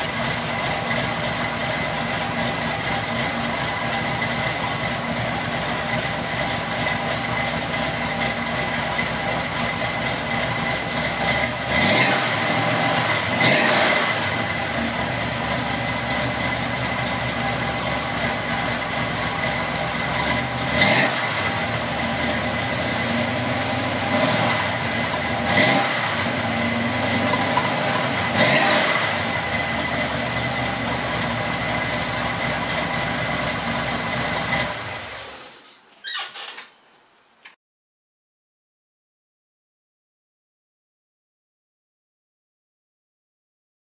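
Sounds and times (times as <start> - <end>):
engine idling and revving: 0.0 - 35.5.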